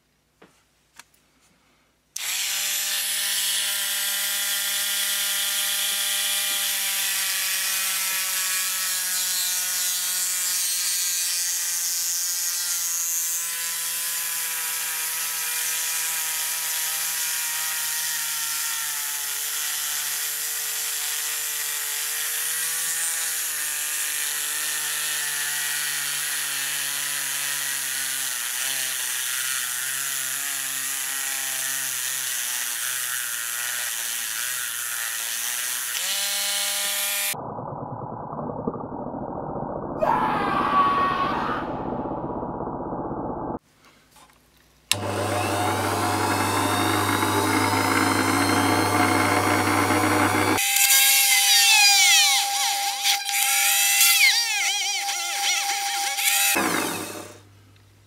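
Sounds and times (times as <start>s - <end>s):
electric rotary tool drilling metal: 2.2s - 37.4s, 44.9s - 57.4s.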